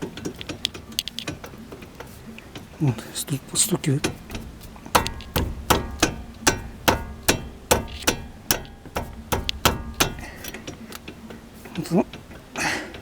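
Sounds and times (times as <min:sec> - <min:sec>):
brake assembly knocking: 0:00.0 - 0:02.8, 0:03.8 - 0:13.0.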